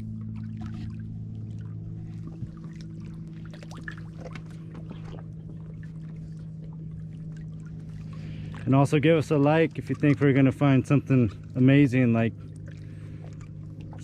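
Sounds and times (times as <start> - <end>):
motorboat engine droning: 0.0 - 14.0.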